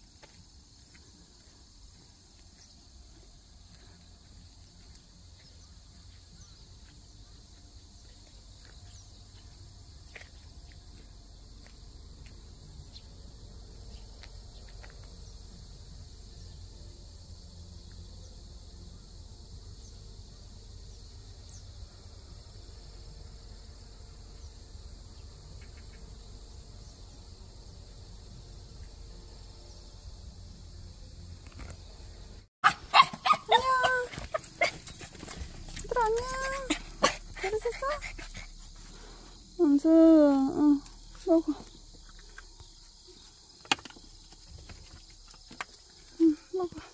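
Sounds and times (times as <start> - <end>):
insects chirping: 0.0 - 46.9.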